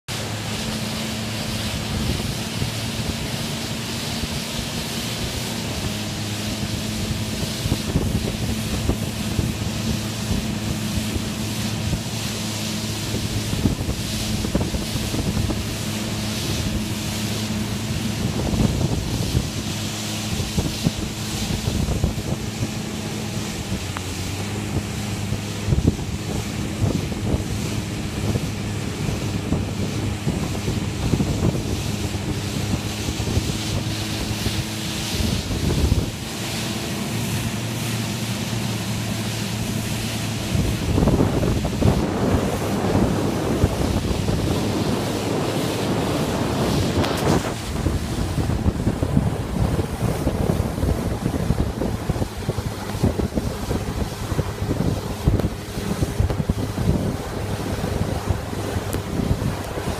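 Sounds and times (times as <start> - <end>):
outboard motors humming: 0.0 - 59.9
rush of boat wake: 0.0 - 59.9
wind buffeting microphone: 0.1 - 59.9.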